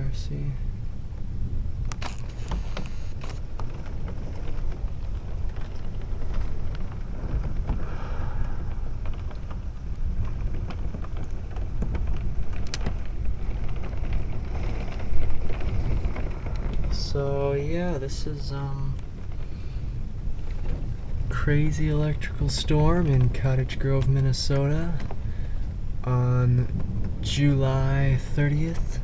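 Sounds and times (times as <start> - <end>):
rain pattering: 0.0 - 29.0
wind gusts buffeting microphone: 0.0 - 29.0.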